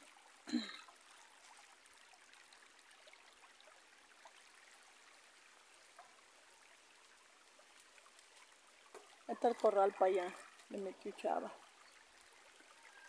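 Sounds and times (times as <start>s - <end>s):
river trickling over stones: 0.0s - 13.0s.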